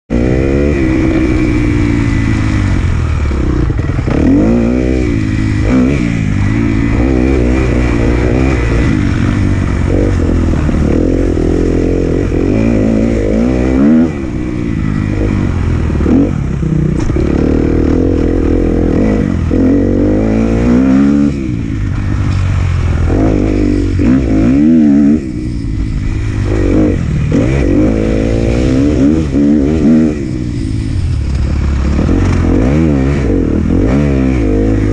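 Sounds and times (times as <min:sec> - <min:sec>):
motorcycle engine revving hard: 0:00.1 - 0:34.9.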